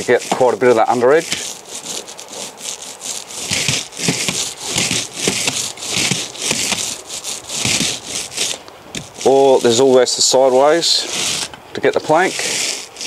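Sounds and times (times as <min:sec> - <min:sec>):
paint roller hissing on boards: 0:00.0 - 0:13.0.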